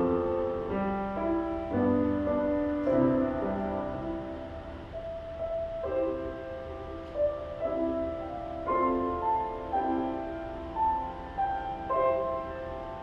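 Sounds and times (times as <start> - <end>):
gentle keyboard music: 0.0 - 13.0.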